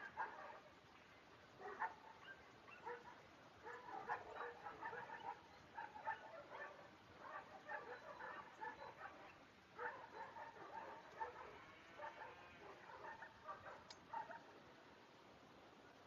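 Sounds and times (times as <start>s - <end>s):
faint dog barking: 0.0s - 0.8s, 1.6s - 14.6s.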